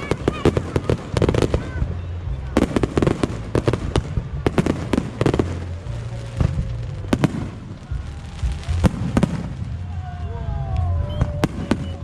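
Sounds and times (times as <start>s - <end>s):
fireworks bangs: 0.0s - 12.0s
low rumble: 0.0s - 12.0s.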